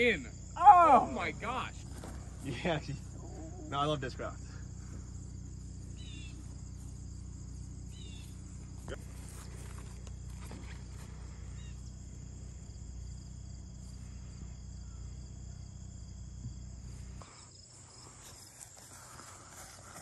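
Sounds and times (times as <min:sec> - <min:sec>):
low steady rumble: 0:00.0 - 0:18.2
insects chirping: 0:00.0 - 0:20.0.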